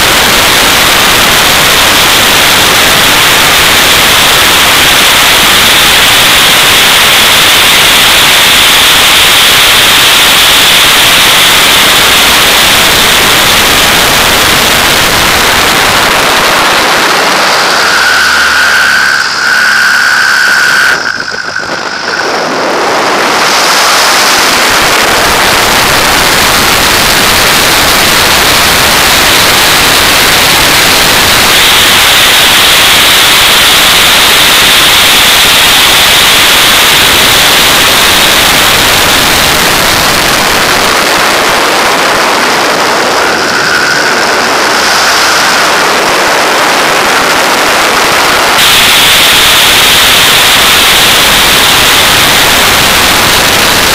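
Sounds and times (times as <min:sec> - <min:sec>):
airplane engine running: 0:00.0 - 0:53.9
wind noise over microphone: 0:00.0 - 0:53.9.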